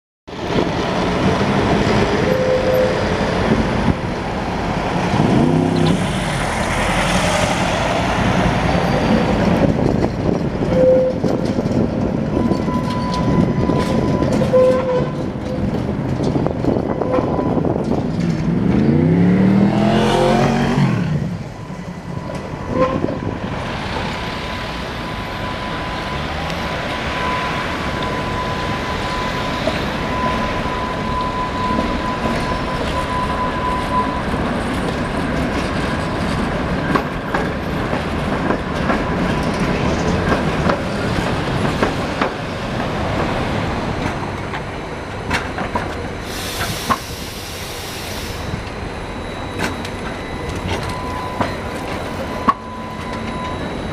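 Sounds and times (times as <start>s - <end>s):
tram wheels rumbling on rails: 0.3s - 53.9s
tram wheels squealing: 0.4s - 53.9s.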